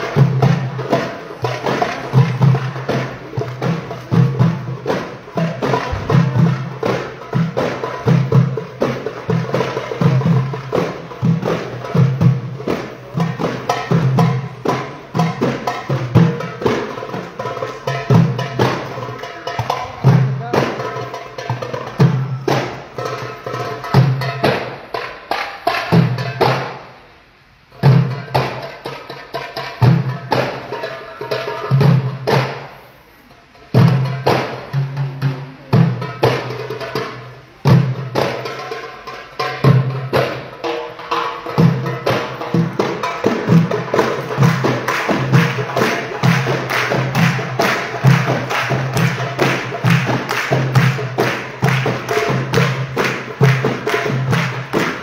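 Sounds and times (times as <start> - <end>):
hand drum ensemble: 0.0 - 55.0.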